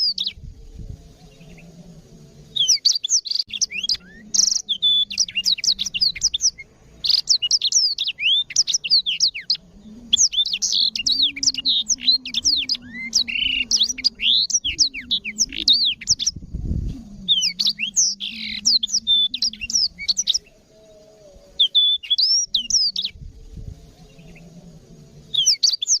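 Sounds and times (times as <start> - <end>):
canary singing: 0.0 - 0.4, 1.1 - 23.2, 23.8 - 26.0.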